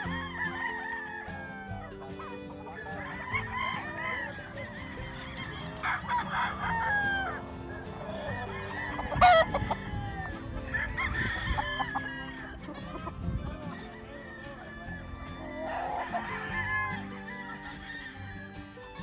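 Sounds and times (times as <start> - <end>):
roosters crowing and clucking: 0.0 - 19.0.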